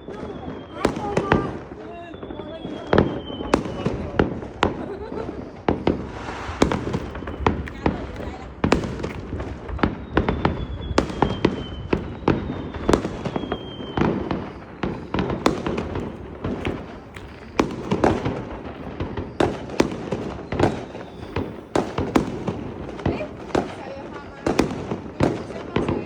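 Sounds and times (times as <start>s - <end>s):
firework whistle: 0.0s - 26.0s
fireworks bangs: 0.0s - 26.0s
fireworks crackle: 0.0s - 26.0s.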